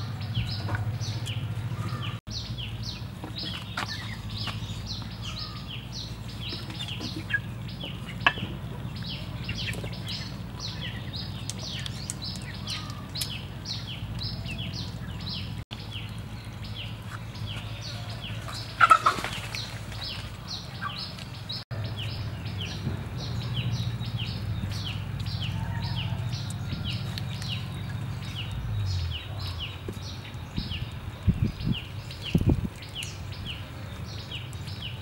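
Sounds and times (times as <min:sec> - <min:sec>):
high falling chirping calls: 0:00.0 - 0:35.0.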